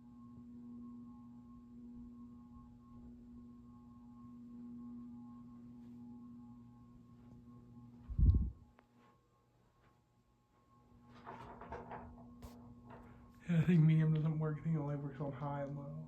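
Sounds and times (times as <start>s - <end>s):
ceiling fan motor humming: 0.0s - 16.0s.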